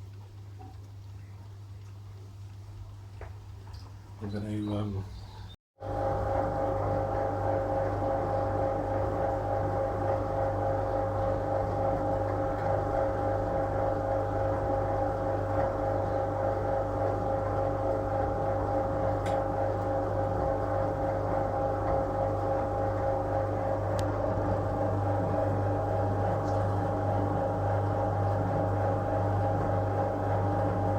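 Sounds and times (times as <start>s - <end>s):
washing machine motor hum: 5.8s - 30.9s.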